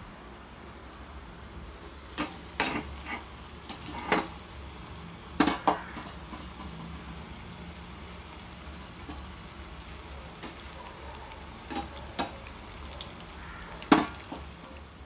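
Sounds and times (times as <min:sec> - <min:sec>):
oil sizzling: 0:02.0 - 0:15.0.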